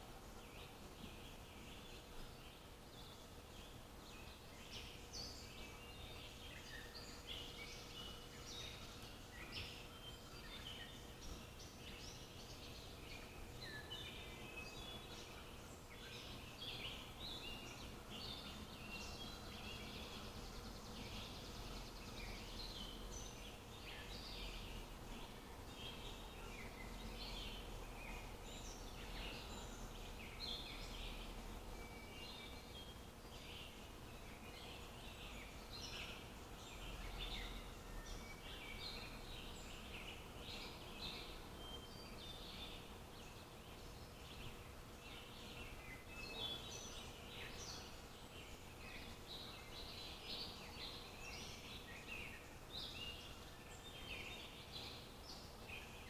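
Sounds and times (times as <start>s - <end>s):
faint background hum: 0.0s - 56.0s
small birds chirping and twittering: 0.0s - 56.0s.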